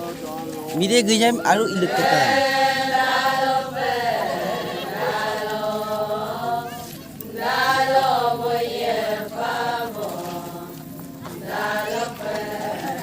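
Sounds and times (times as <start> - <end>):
voices chanting a song: 0.0 - 13.0.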